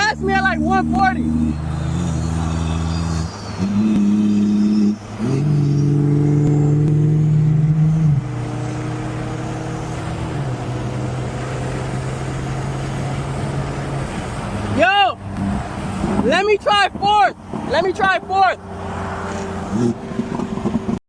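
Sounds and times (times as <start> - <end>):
car engine droning: 0.0 - 21.0.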